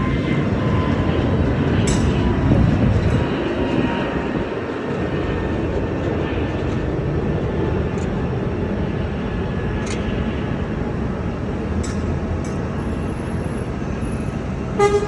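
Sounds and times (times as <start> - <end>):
faint high jet whine: 0.0 - 15.0
jet engines rumbling: 0.0 - 15.0.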